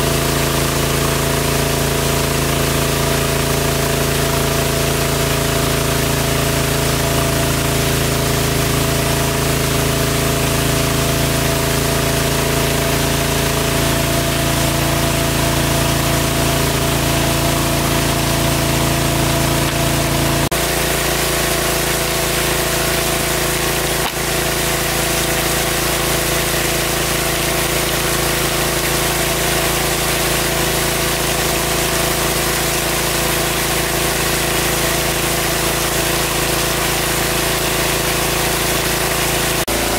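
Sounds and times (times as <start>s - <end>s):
engine-driven water pump running: 0.0s - 39.9s.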